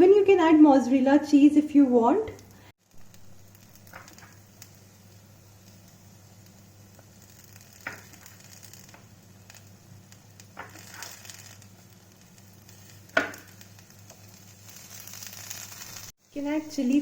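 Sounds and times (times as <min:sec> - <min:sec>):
batter sizzling in frying pan: 0:02.3 - 0:17.0.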